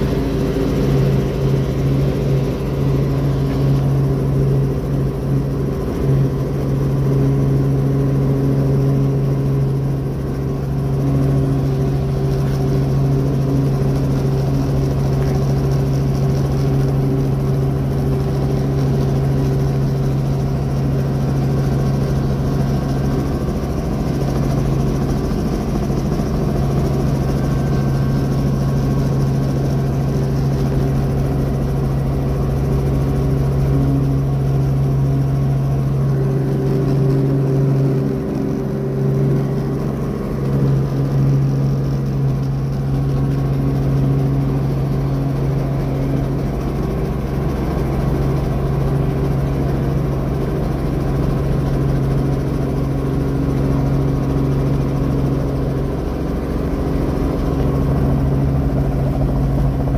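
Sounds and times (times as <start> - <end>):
helicopter engine and rotors droning: 0.0 - 59.9.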